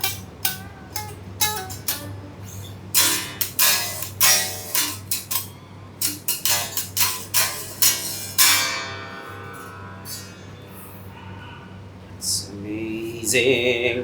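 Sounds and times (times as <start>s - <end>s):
electric guitar strumming: 0.0s - 11.8s
low hum: 0.0s - 13.9s.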